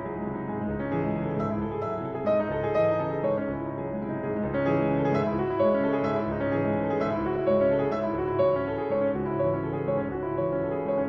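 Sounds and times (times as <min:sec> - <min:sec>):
classical solo piano: 0:00.0 - 0:11.0.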